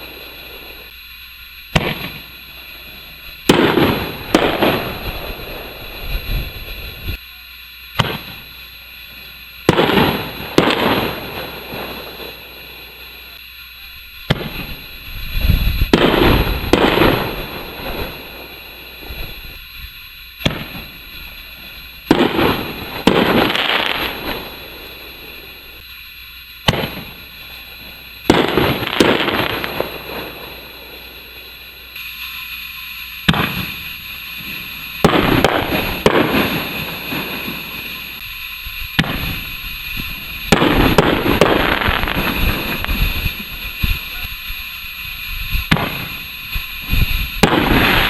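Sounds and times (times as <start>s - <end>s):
distant firework bangs crackling: 0.0s - 48.0s.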